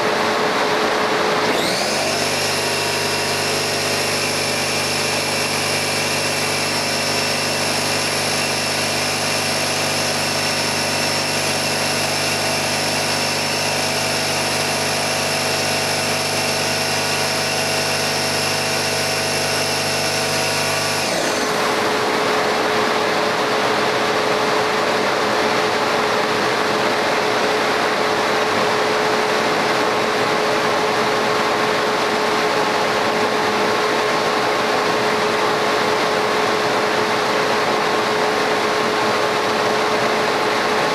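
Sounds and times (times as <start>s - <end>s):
laser cutter running: 0.0s - 40.9s.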